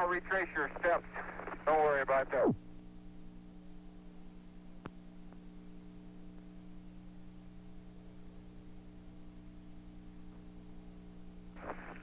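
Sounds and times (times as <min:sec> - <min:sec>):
electrical hum: 0:00.0 - 0:12.0
tape hiss: 0:00.0 - 0:12.0.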